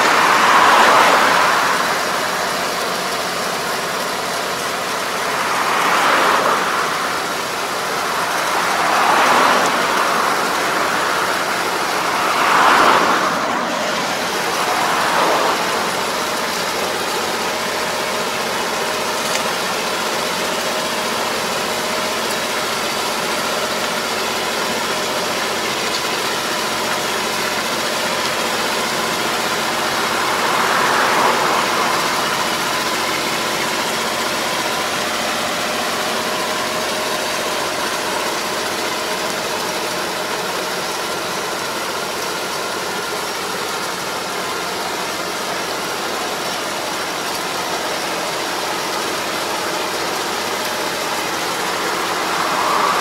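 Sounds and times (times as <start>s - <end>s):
rushing noise: 0.0s - 25.6s, 26.2s - 40.8s, 44.0s - 53.0s
tractor engine running: 0.0s - 53.0s.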